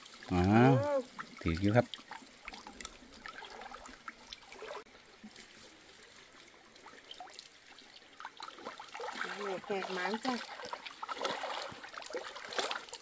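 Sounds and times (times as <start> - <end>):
water trickling and dripping: 0.0 - 13.0
small splashes into water: 1.0 - 13.0.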